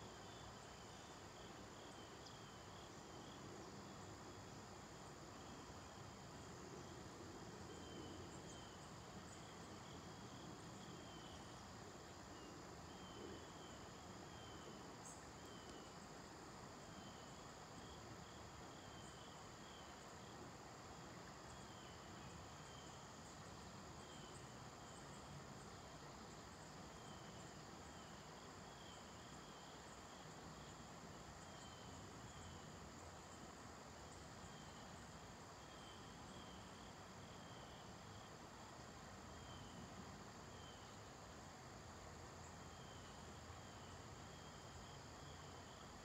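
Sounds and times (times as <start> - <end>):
faint high insect chirping: 0.0 - 46.0
low steady hiss: 0.0 - 46.0.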